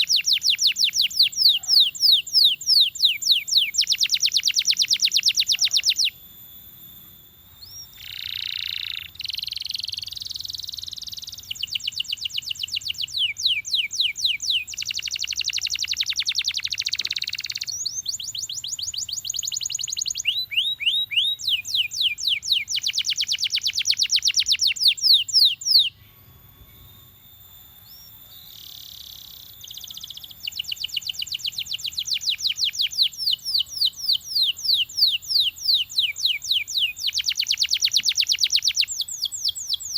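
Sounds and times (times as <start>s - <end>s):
canary singing rolling trills: 0.0s - 6.8s, 7.5s - 39.9s.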